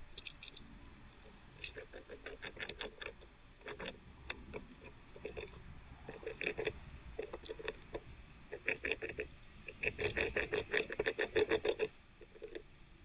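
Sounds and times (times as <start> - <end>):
squirrel gnawing: 0.1 - 12.7.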